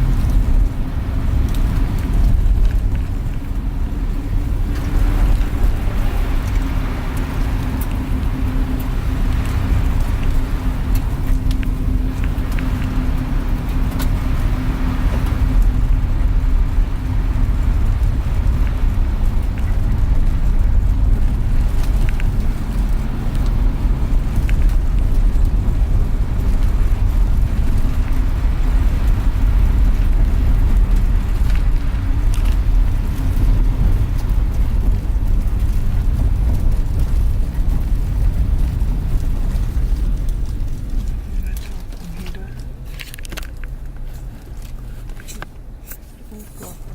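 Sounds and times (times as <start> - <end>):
van engine and road rumble: 0.0 - 46.9.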